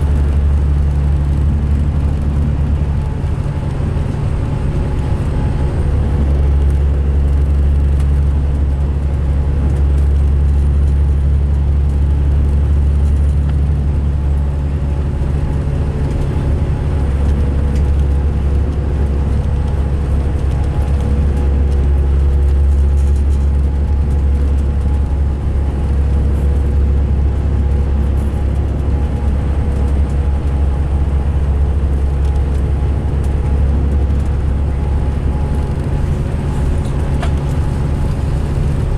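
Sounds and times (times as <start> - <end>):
diesel bus engine droning: 0.0 - 38.9.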